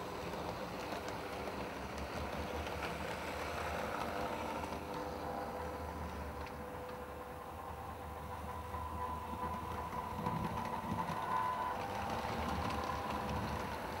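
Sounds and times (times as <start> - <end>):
model train motor humming: 0.0 - 14.0.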